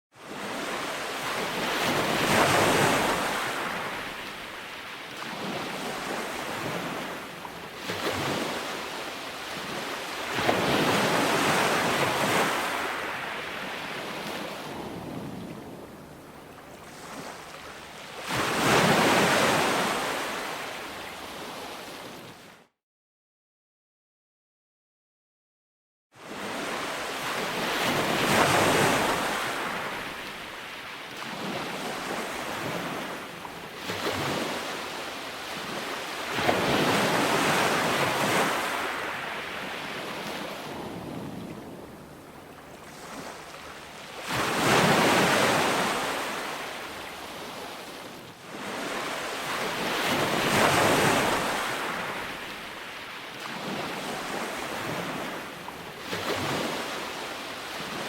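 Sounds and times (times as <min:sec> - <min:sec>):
waves washing up on beach: 0:00.2 - 0:22.5, 0:26.2 - 0:58.0.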